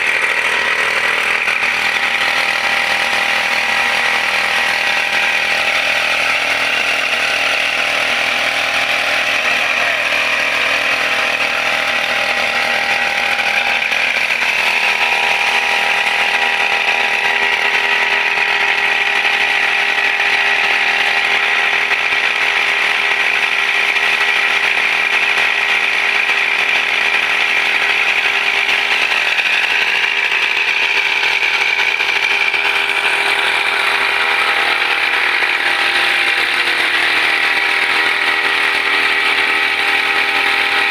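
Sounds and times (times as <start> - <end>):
brush cutter engine running: 0.0 - 40.9.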